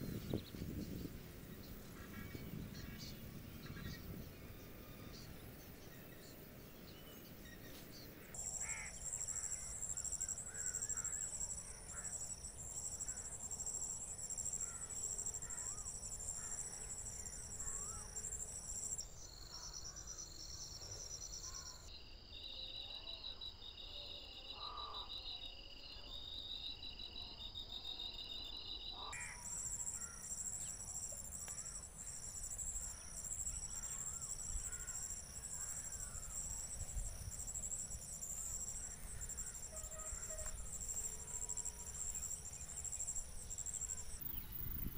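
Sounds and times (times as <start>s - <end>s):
insects trilling: 8.2s - 44.9s.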